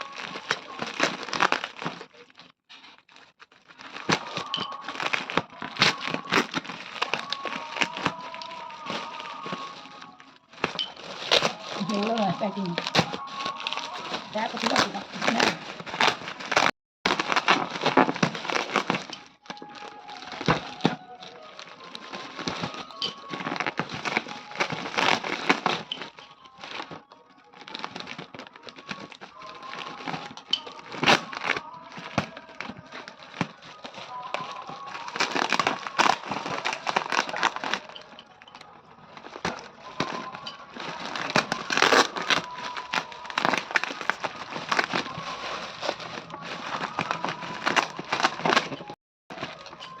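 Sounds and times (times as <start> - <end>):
plastic packaging crinkling: 0.0 - 50.0.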